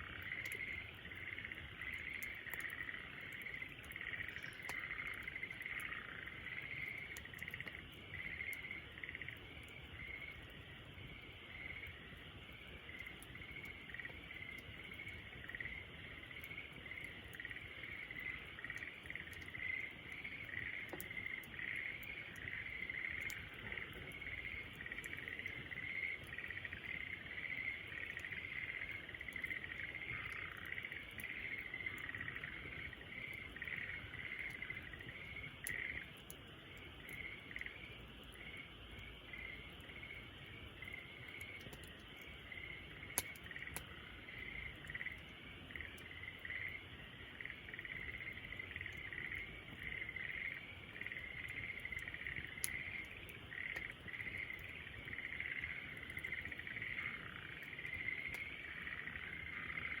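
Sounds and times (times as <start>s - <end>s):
campfire popping: 0.0s - 60.0s
insects chirping: 0.0s - 60.0s.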